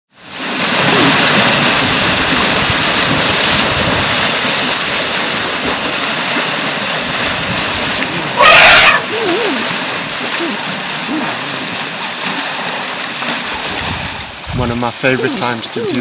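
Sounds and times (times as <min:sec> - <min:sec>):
water splashing from wading elephants: 0:00.2 - 0:16.0.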